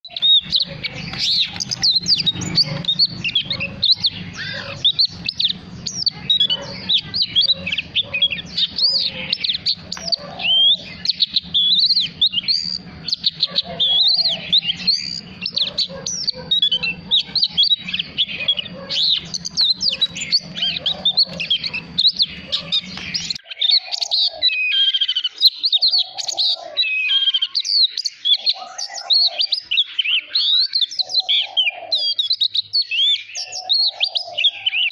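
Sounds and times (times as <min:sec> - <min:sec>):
bird singing: 0:00.0 - 0:34.9.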